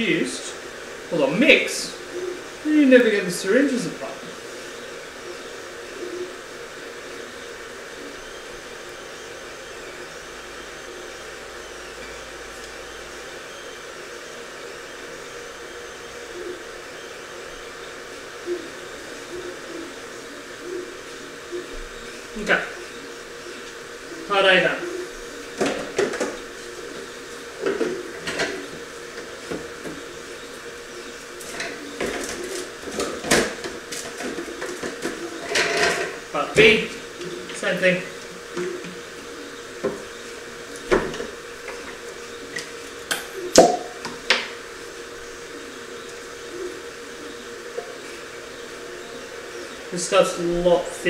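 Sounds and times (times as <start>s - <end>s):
fan whirring: 0.0s - 51.0s
three d printer humming: 0.0s - 51.0s.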